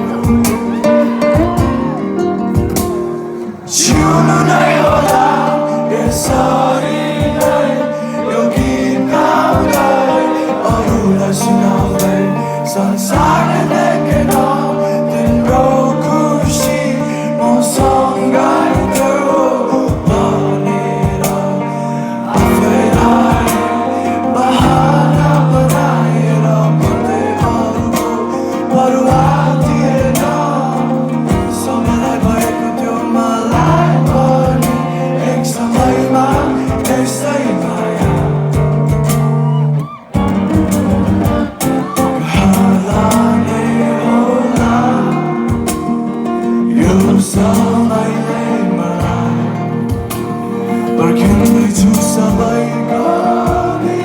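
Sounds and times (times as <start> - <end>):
guitar: 0.0 - 54.0
man singing: 0.0 - 54.0.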